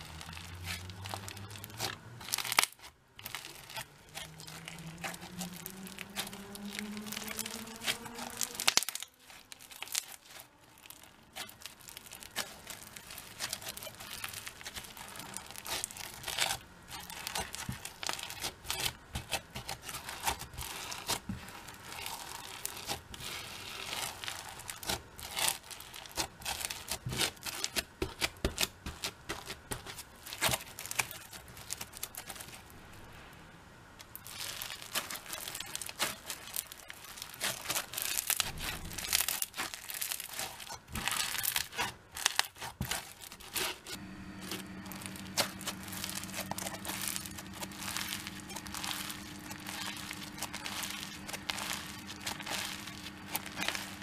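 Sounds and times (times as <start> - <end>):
crunchy slime crackling and popping: 0.0 - 33.1, 34.0 - 54.0
low steady hum: 0.0 - 54.0.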